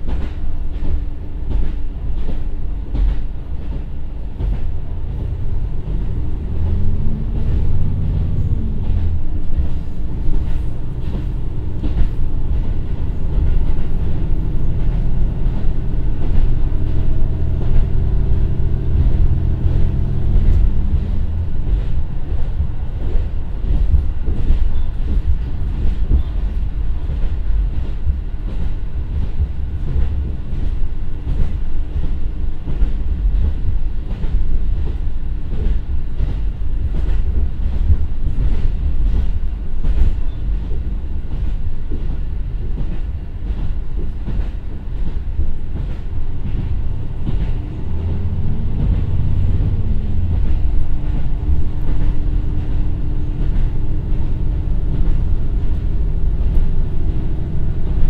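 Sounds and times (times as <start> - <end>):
rail-joint clicks: 0.0 - 58.0
train engine and wheels rumbling: 0.0 - 58.0.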